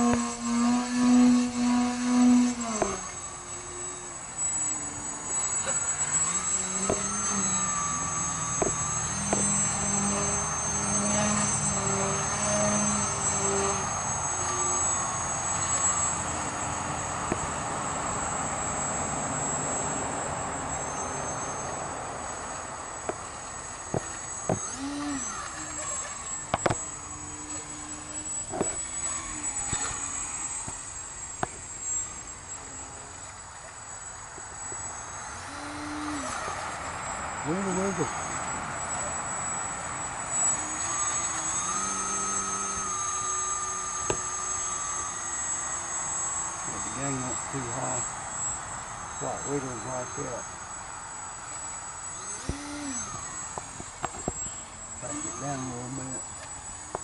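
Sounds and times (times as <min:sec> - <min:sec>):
model plane motor whining: 0:00.0 - 0:57.0.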